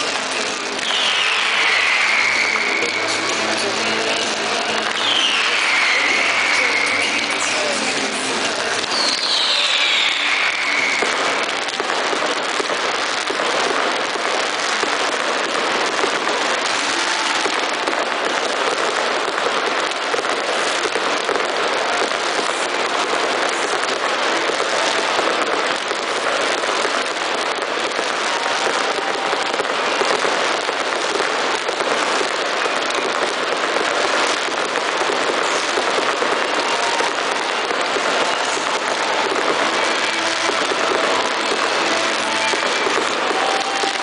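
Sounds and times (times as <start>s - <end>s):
firework fountains hissing crackling: 0.0s - 44.0s.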